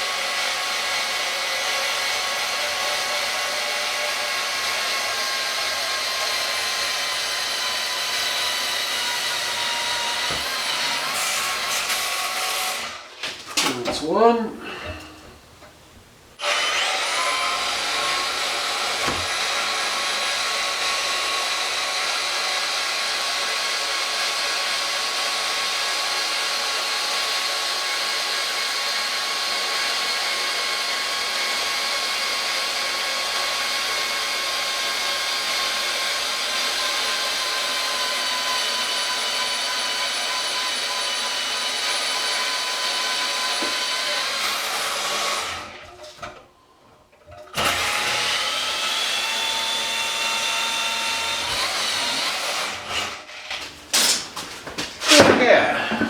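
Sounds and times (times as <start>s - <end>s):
bandsaw whining through metal: 0.0s - 13.1s, 16.4s - 46.4s, 47.5s - 56.0s.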